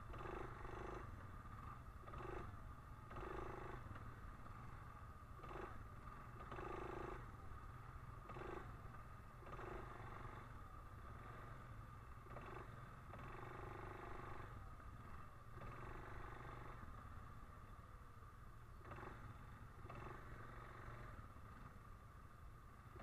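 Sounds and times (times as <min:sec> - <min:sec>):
atv engine rumbling: 0:00.0 - 0:23.0.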